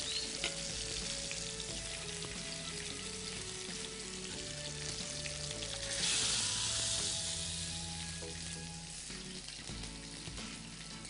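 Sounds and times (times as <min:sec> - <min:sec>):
gourds sizzling in a pan: 0:00.0 - 0:11.0.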